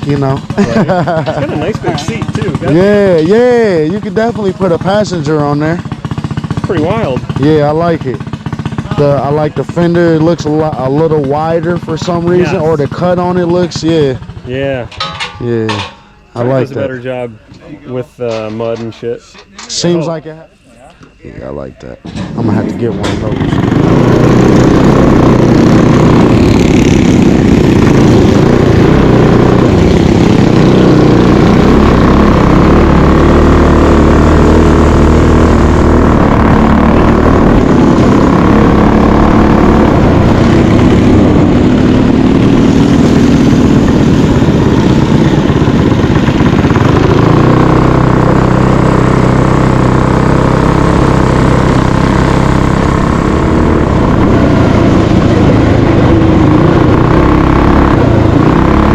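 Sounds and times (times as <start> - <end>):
mini bike engine revving: 0.0 - 15.0, 22.0 - 58.9.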